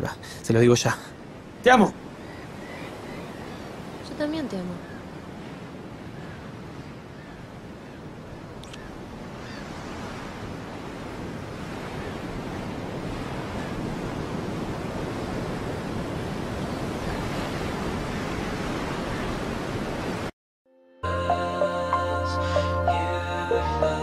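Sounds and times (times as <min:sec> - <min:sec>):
ocean surf: 0:00.0 - 0:20.3
wind gusting: 0:00.0 - 0:20.3.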